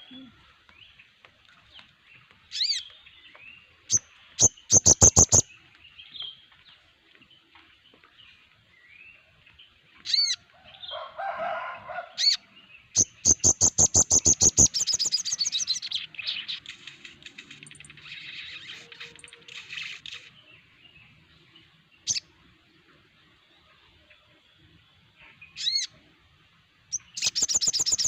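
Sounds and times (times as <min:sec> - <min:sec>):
birds chirping and trilling: 0:00.0 - 0:28.0.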